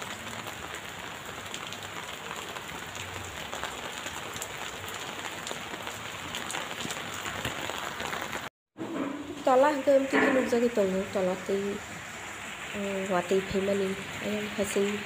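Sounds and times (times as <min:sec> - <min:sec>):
rain on concrete: 0:00.0 - 0:15.0.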